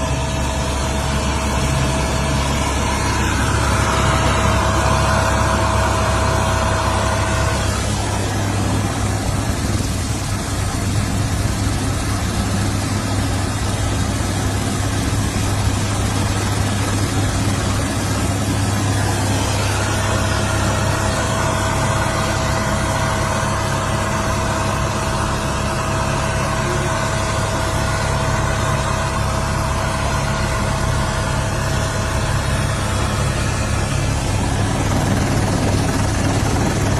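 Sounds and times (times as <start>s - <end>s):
engine drone: 0.0s - 36.9s
thin steady whine: 0.0s - 36.9s.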